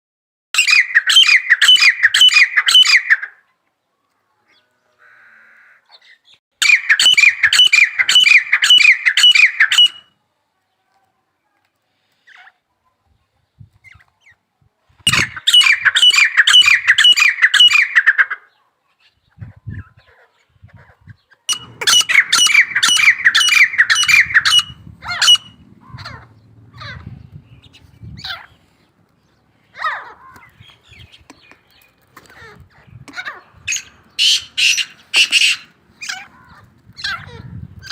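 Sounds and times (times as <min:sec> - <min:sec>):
francolins calling: 0:00.6 - 0:03.4, 0:04.5 - 0:10.1, 0:15.1 - 0:18.6, 0:19.3 - 0:37.9.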